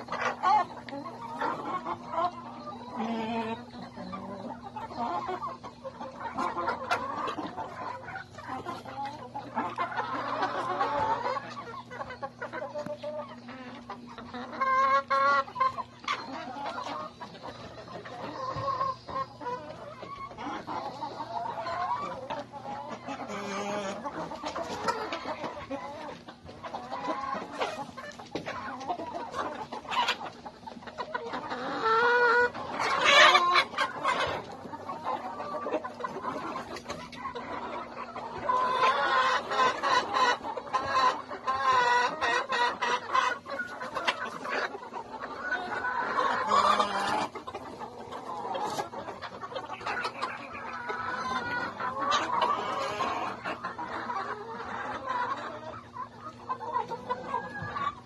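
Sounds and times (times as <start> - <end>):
hens clucking and squawking: 0.0 - 58.0.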